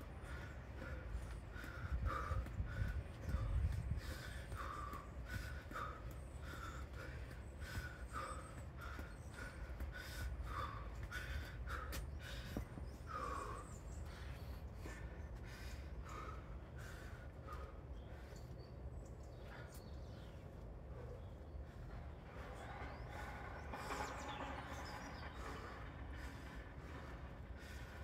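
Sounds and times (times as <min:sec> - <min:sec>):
person panting hard: 0:00.0 - 0:28.0.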